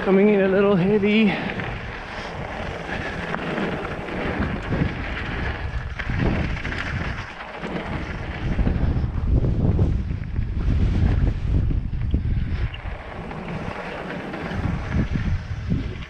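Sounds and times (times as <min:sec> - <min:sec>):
bike tyres rumbling on dirt trail: 0:00.0 - 0:16.0
wind buffeting microphone: 0:00.0 - 0:16.0.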